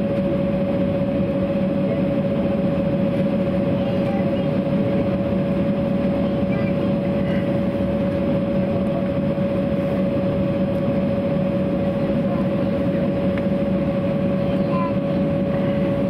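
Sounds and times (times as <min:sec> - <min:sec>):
jet engines idling with whine: 0:00.0 - 0:16.0.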